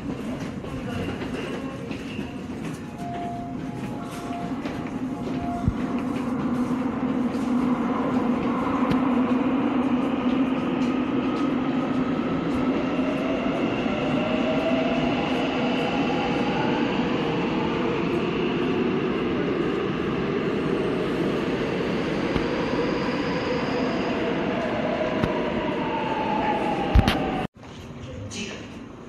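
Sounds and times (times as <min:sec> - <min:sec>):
train wheels rumbling on rail: 0:00.0 - 0:27.5.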